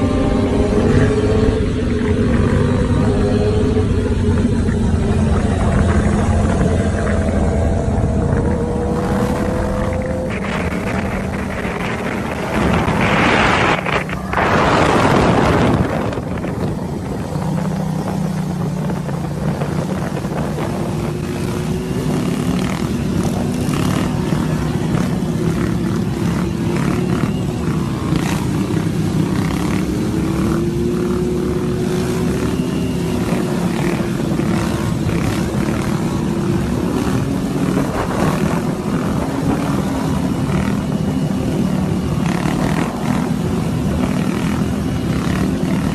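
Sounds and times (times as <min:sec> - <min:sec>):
loud rushing noise: 0:00.0 - 0:45.9
motorcycle engine running: 0:00.0 - 0:45.9.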